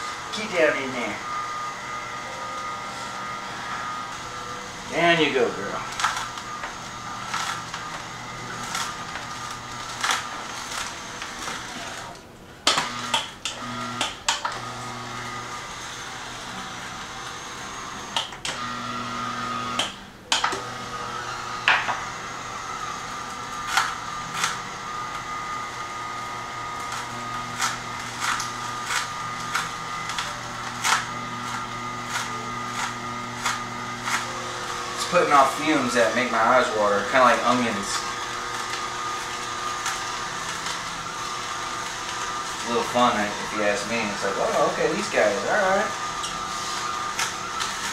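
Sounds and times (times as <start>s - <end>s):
juicer motor humming: 0.0s - 47.9s.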